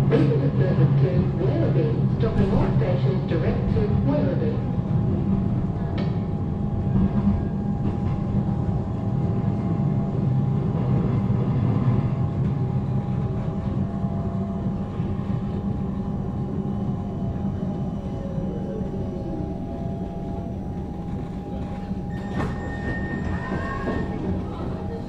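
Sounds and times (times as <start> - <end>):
train rumbling inside carriage: 0.0 - 25.0.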